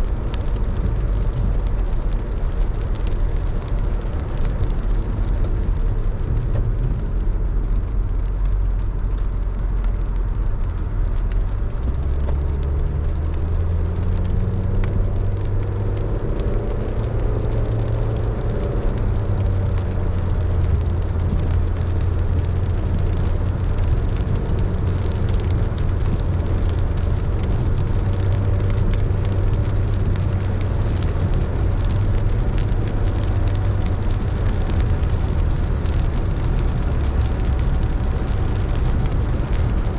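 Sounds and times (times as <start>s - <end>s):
car engine hum: 0.0s - 39.9s
rain falling on car: 0.0s - 39.9s
road noise: 0.0s - 39.9s.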